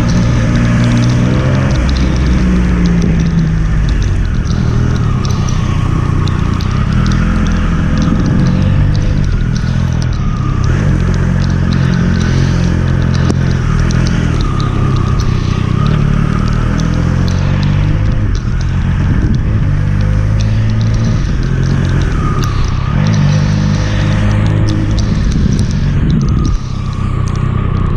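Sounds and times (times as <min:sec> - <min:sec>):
motorcycle engine running: 0:00.0 - 0:27.9
small ticks: 0:00.0 - 0:27.9.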